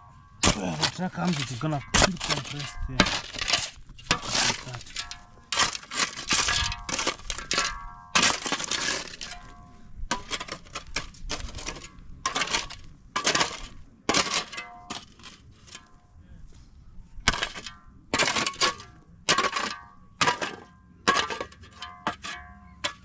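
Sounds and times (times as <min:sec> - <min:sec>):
gravel and stones crunching: 0:00.0 - 0:23.0.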